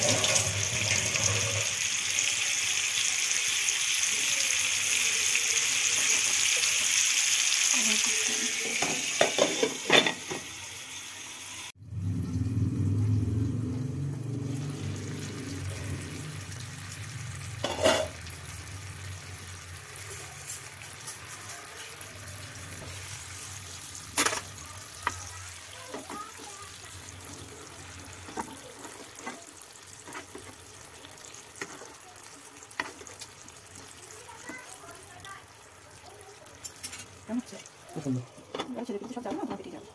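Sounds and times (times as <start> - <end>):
chicken sizzling in frying pan: 0.0 - 12.4, 13.2 - 39.9.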